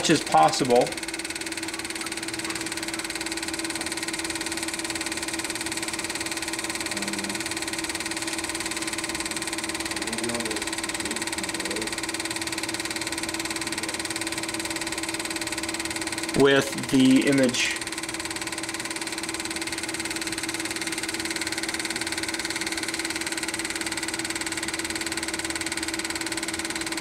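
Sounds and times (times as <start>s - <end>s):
film projector running: 0.0s - 27.0s.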